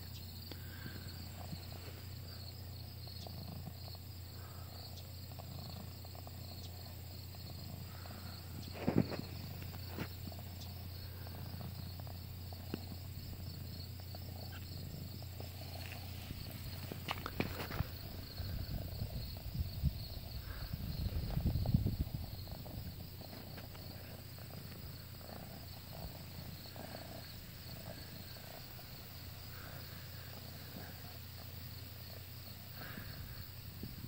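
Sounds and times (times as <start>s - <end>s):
cat purring: 0.3s - 34.0s.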